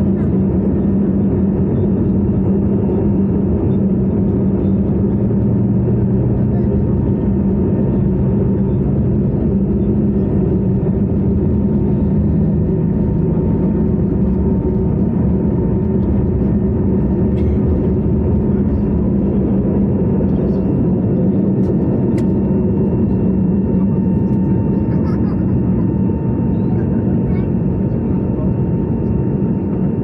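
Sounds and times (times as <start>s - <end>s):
jet engine drone: 0.0s - 30.0s
low hum: 0.0s - 30.0s.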